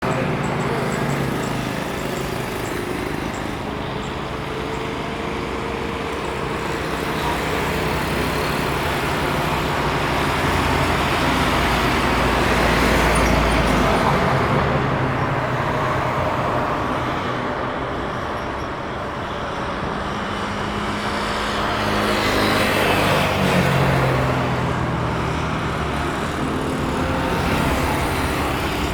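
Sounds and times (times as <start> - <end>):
traffic noise: 0.0 - 28.9.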